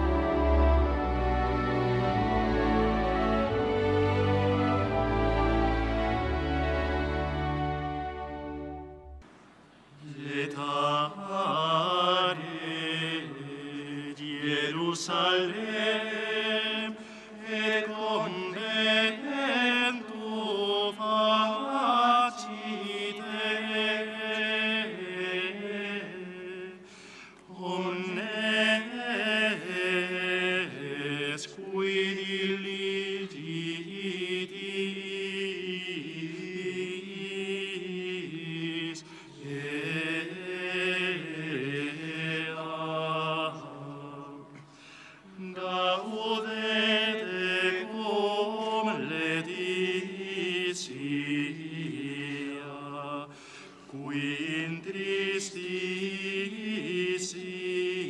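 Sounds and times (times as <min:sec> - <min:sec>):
voices singing a slow chant: 0:10.0 - 0:58.0.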